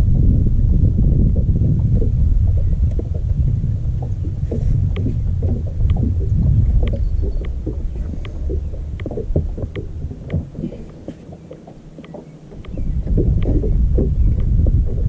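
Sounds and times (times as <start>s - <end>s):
water lapping against boat hull: 0.0s - 15.0s
wind buffeting microphone: 0.0s - 15.0s
faint irregular ticks: 1.4s - 15.0s.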